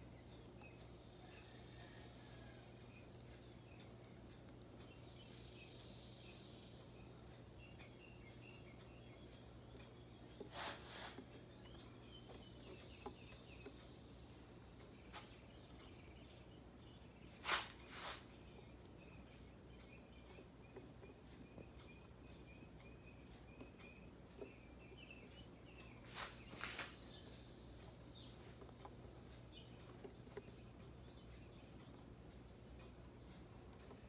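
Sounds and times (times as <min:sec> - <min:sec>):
faint high chirping: 0:00.0 - 0:34.0.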